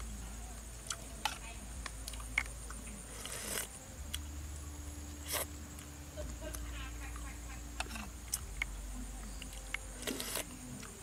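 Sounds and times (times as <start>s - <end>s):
faint high-pitched hum: 0.0s - 11.0s.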